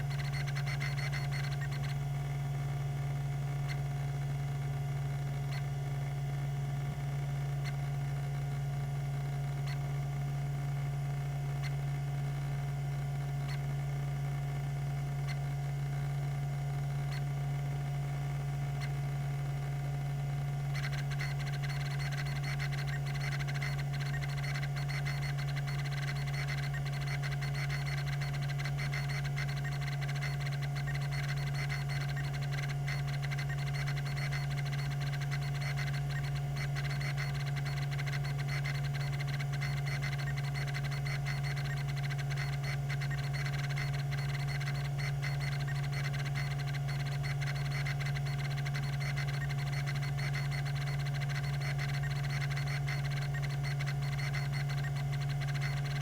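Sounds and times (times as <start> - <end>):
hard drive rapid ticking: 0.0 - 2.4, 3.0 - 6.1, 6.9 - 13.8, 14.8 - 17.4, 18.6 - 56.0
hard drive spindle hum: 0.0 - 56.0.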